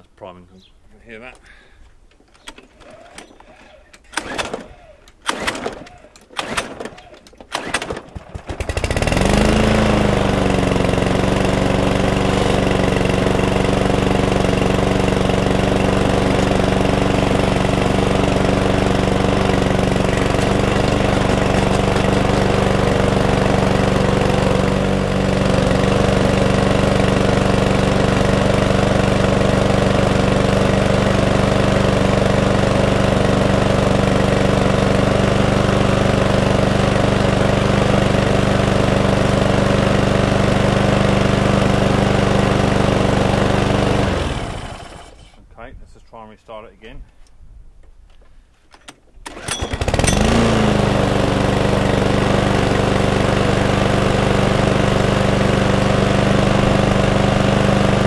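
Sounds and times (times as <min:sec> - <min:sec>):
lawnmower engine running: 0:01.3 - 0:45.4, 0:49.2 - 0:58.0.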